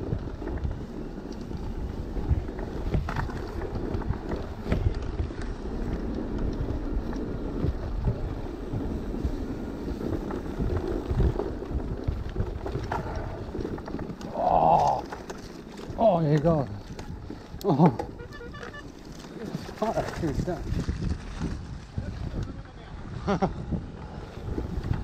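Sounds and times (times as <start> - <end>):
bike knocks and rattles: 0.0 - 22.5
tyres rumbling on ground: 0.0 - 25.0
wind on microphone: 0.0 - 25.0.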